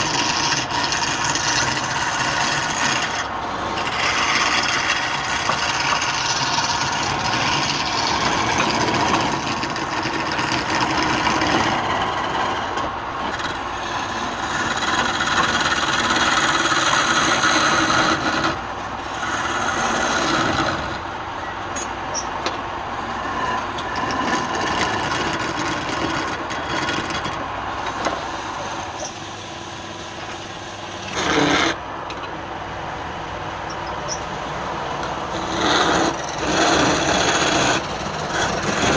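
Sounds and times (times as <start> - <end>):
tool scraping wood on lathe: 0.0 - 21.1, 21.8 - 32.3, 35.0 - 38.9.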